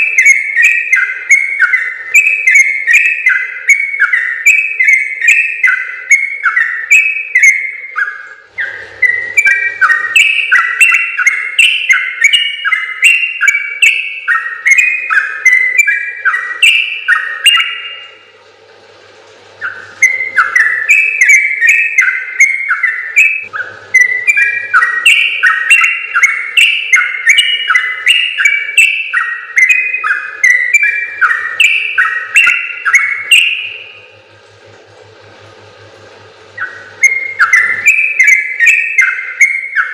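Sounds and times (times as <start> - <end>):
bulbul singing whistled notes: 0.0 - 18.3, 19.6 - 34.2, 36.5 - 39.9.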